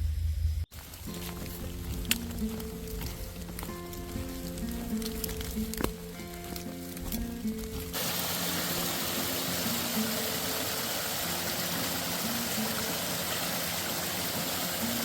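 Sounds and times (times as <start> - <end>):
rushing water: 0.7 - 15.0
background music: 1.1 - 15.0.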